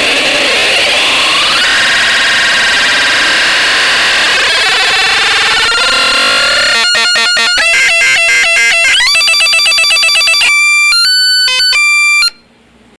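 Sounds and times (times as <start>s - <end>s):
buzzy synthesizer tones: 0.0s - 12.4s.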